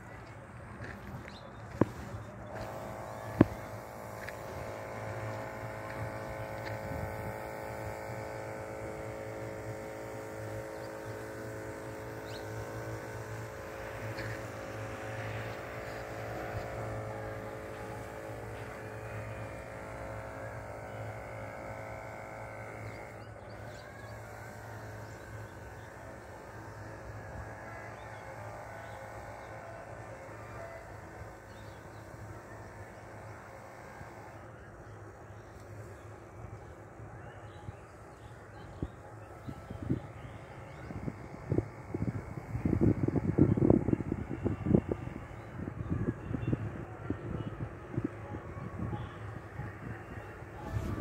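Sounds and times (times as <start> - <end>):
small engine droning: 0.0 - 51.0.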